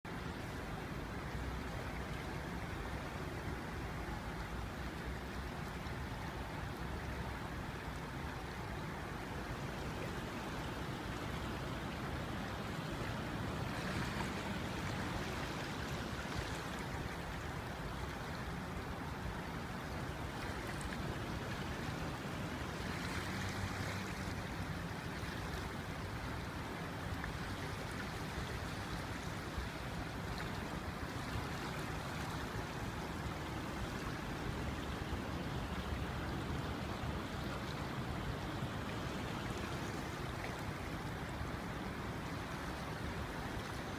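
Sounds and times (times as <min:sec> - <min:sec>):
river floodwater rushing: 0:00.1 - 0:43.9.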